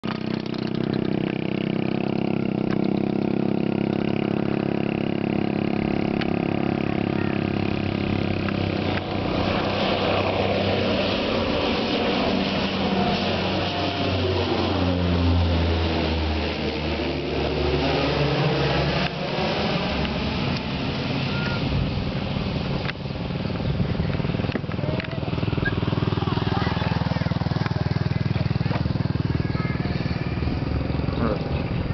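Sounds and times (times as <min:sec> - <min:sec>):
turboprop airliner taking off: 0:00.0 - 0:31.9.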